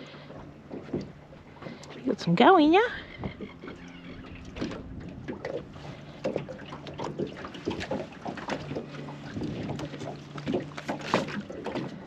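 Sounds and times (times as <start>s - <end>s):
water slapping against boat hull: 0.3s - 12.0s.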